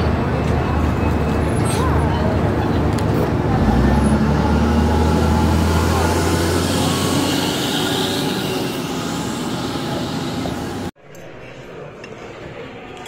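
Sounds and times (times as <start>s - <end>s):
city traffic: 0.0s - 11.0s
heavy vehicle engine drone: 0.0s - 11.0s.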